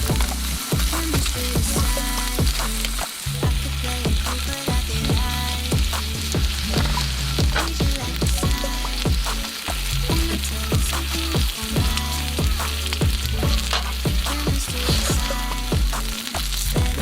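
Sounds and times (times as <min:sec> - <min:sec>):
music with bass line and beat: 0:00.0 - 0:17.0.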